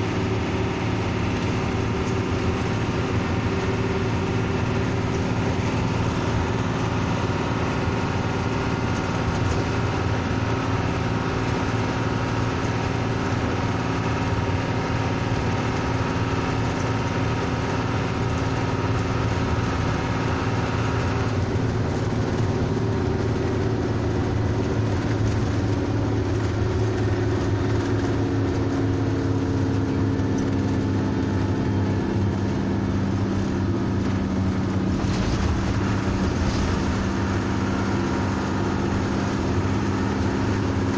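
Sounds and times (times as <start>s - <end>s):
bus engine humming: 0.0s - 40.9s.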